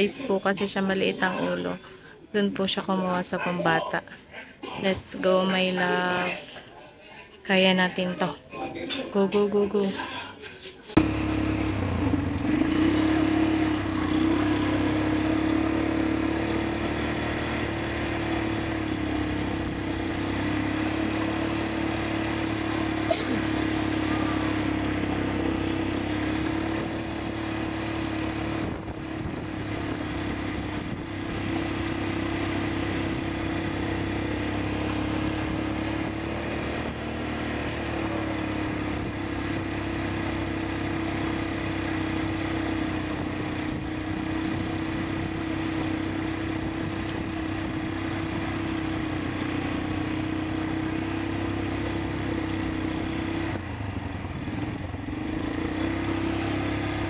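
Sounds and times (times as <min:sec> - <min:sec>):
quad bike engine running: 0:00.0 - 0:04.0, 0:10.9 - 0:57.0.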